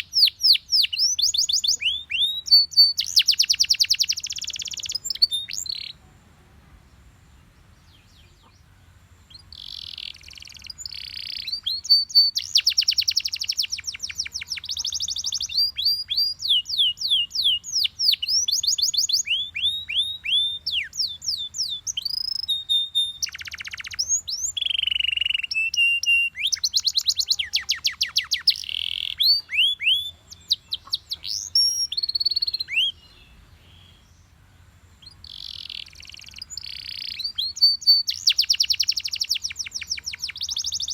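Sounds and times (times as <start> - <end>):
canary singing: 0.0 - 6.0, 7.6 - 34.3, 35.0 - 40.9.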